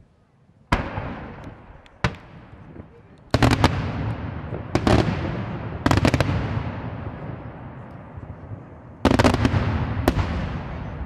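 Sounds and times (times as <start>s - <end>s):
fireworks bangs with echo: 0.7s - 11.0s.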